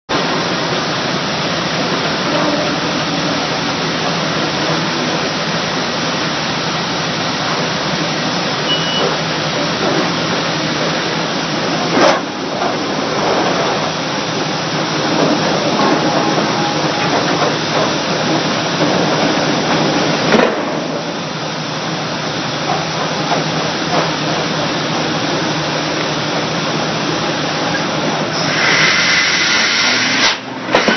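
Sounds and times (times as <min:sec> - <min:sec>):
pile hammer air exhaust hiss: 0:00.2 - 0:30.9.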